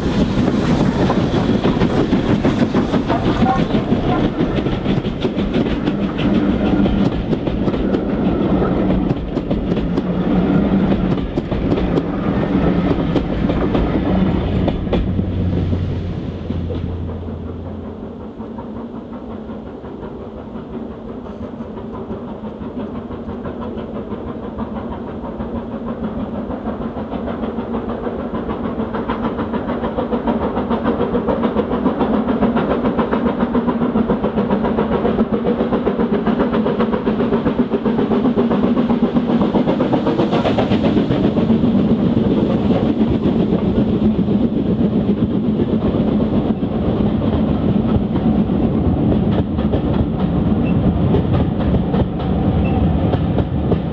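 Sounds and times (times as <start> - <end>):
steam train running: 0.0 - 53.9.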